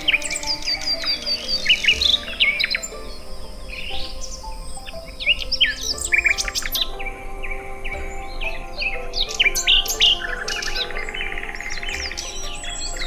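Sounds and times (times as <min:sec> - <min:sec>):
soft background music: 0:00.0 - 0:13.0
songbirds chirping: 0:00.0 - 0:13.0.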